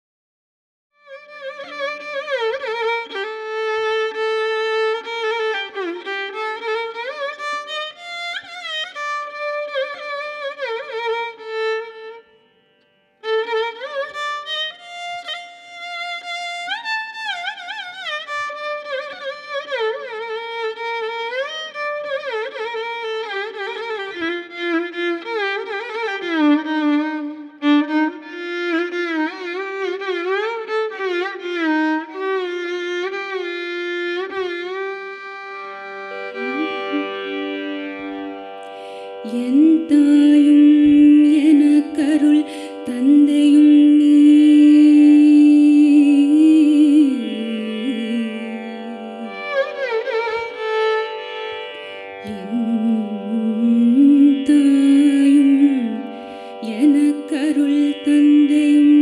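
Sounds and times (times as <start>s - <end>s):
violin solo with sliding notes: 1.0s - 59.0s.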